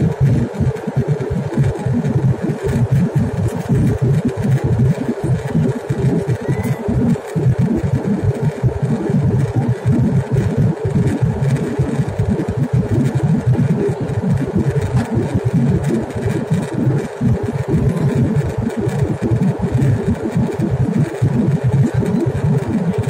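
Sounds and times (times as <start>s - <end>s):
jet engine cabin roar: 0.0s - 23.0s.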